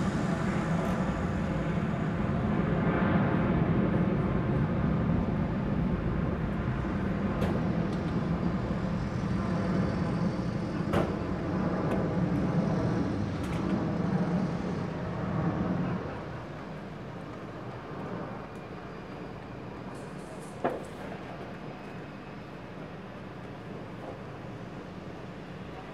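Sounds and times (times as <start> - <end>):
jet engines rumbling: 0.0 - 25.9.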